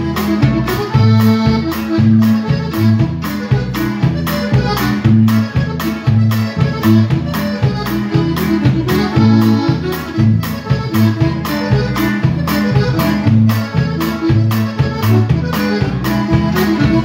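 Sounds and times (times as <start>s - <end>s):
accordion: 0.0s - 17.0s
drums: 0.0s - 17.0s
guitar: 0.0s - 17.0s
oom-pah bass line: 0.0s - 17.0s.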